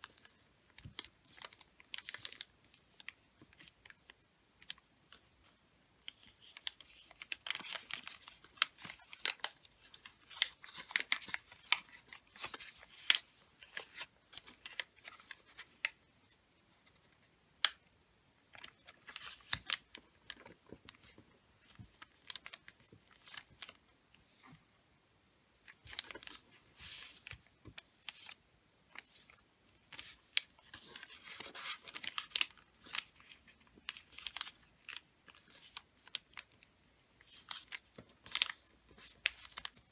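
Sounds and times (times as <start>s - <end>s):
wrapping paper rustling and crinkling: 0.0s - 5.2s, 6.0s - 16.0s, 18.5s - 24.4s, 25.6s - 39.9s.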